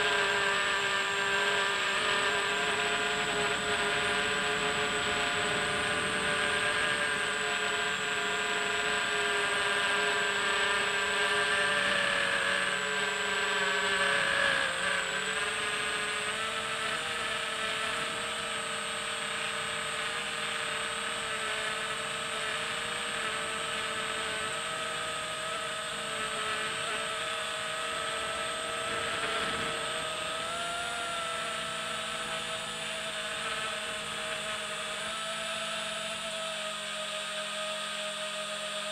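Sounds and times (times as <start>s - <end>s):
drone propellers whining: 0.0s - 38.7s.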